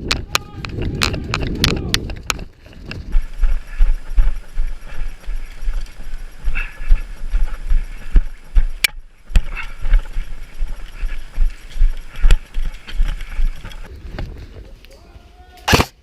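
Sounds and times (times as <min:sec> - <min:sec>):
sharp clicks: 0:00.0 - 0:13.9
heavy running footsteps: 0:00.0 - 0:14.6.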